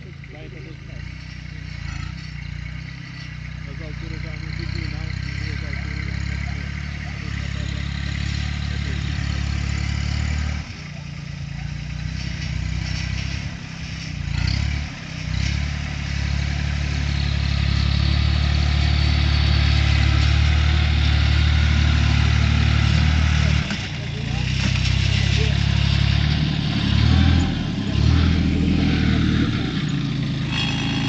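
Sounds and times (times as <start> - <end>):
tractor diesel engine: 0.0 - 31.0.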